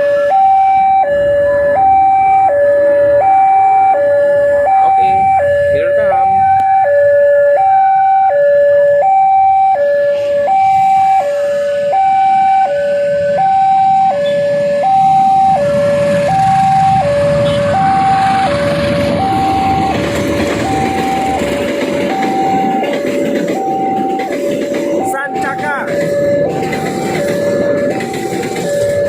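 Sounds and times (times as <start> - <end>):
approaching train rumble: 0.0 - 29.0
level crossing two-tone alarm: 0.0 - 29.0.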